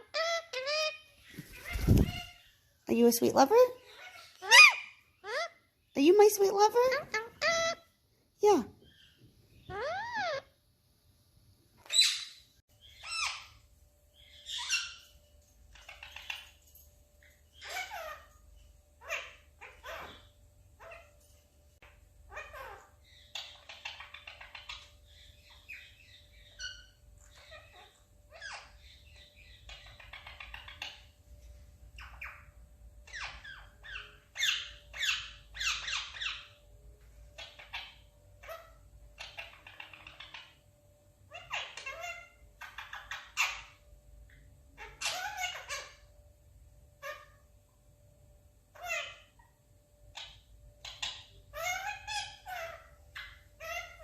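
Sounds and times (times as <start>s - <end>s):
parrot calling: 0.0s - 2.6s, 3.4s - 8.0s, 8.8s - 10.6s, 11.8s - 16.6s, 17.5s - 18.4s, 19.0s - 31.2s, 32.0s - 36.6s, 37.3s - 40.6s, 41.3s - 43.9s, 44.7s - 46.2s, 47.0s - 47.5s, 48.7s - 54.0s.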